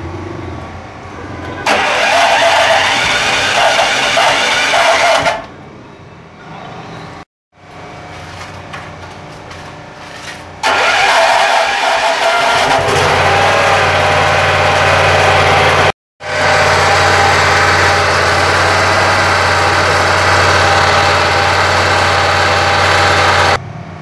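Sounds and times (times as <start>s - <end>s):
generator engine running: 0.8s - 5.6s, 7.6s - 23.6s.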